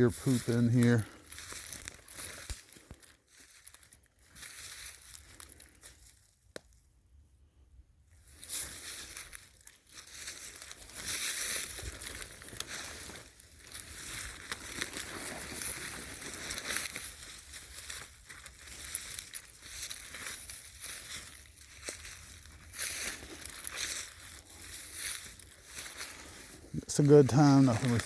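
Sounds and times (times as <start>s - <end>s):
footsteps crunching through dry leaves: 0.0s - 6.4s, 8.2s - 28.0s.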